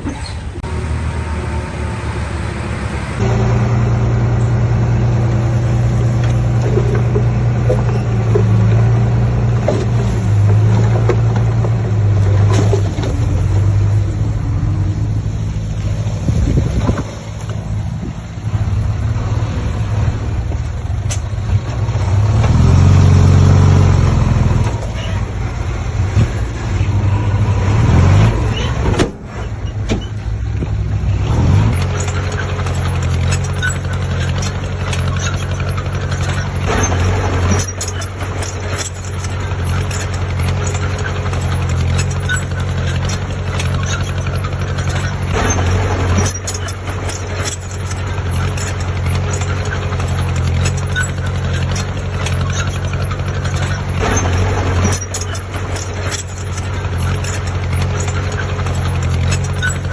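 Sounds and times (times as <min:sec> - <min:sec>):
metal knocks and clanks: 0:00.0 - 0:19.5, 0:20.3 - 0:59.9
heavy machinery diesel engine: 0:00.0 - 0:59.9.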